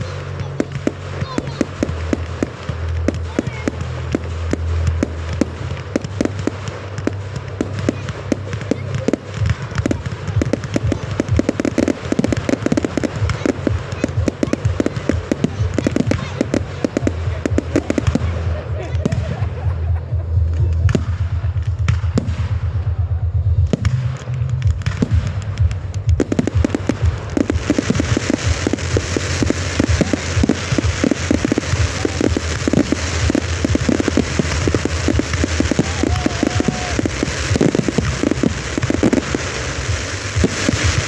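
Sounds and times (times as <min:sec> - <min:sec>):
fireworks popping and crackling: 0:00.0 - 0:41.0.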